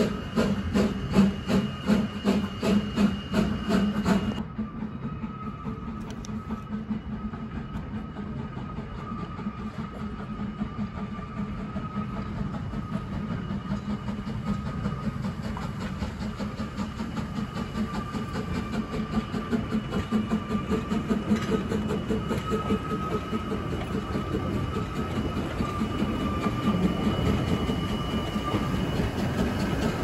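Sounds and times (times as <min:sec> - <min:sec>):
steam locomotive exhaust chuffs: 0:00.0 - 0:30.0.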